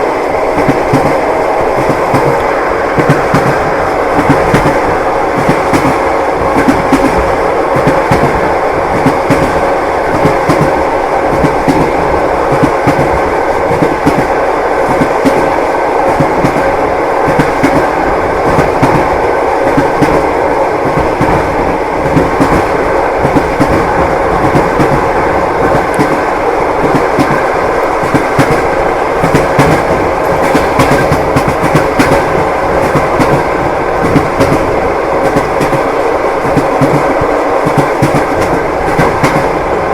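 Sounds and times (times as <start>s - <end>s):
train wheels clacking over rail joints: 3.0s - 39.6s.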